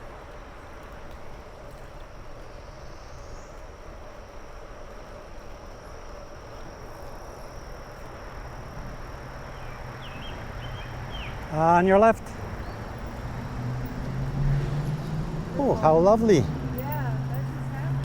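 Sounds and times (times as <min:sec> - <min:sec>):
wind and bicycle tyre noise: 0:00.0 - 0:18.0
high insect trill: 0:02.2 - 0:18.0.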